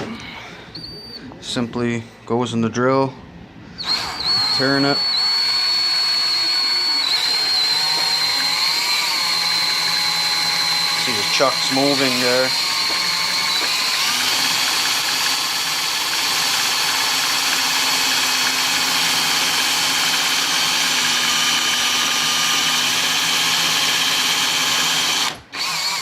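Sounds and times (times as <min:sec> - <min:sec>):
electric drill whining: 0:03.8 - 0:26.0.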